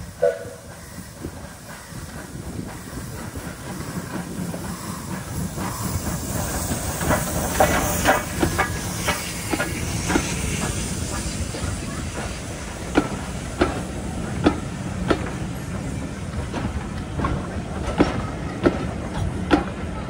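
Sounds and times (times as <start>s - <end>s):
steam locomotive hissing: 0.0s - 20.0s
train wheels clacking on rails: 0.0s - 20.0s.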